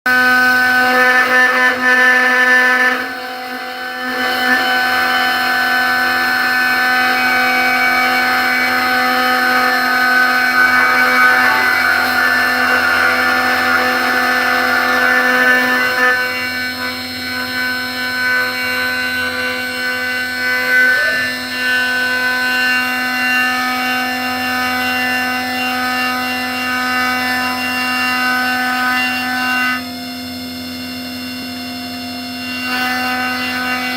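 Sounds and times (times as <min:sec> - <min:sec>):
end mill cutting aluminium: 0:00.1 - 0:29.4
router spindle high-pitched whine: 0:00.1 - 0:33.9.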